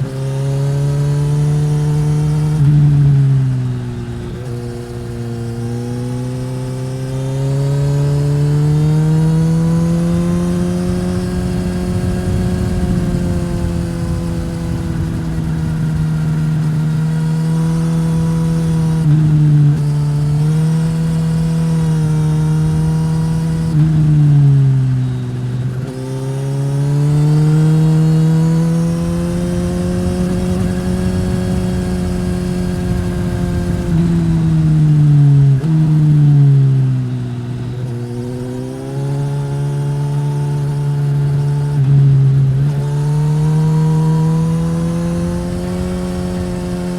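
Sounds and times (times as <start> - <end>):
motorcycle engine: 0.0 - 46.9.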